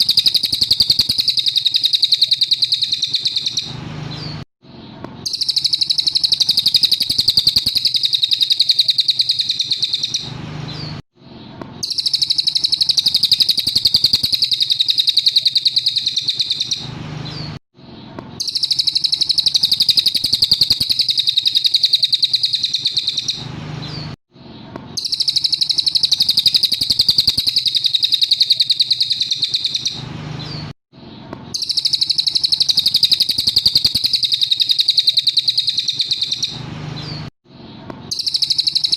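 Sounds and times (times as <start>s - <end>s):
bird trilling: 0.0s - 4.4s, 5.2s - 11.0s, 11.8s - 24.1s, 25.0s - 30.7s, 31.5s - 37.3s, 38.1s - 38.9s.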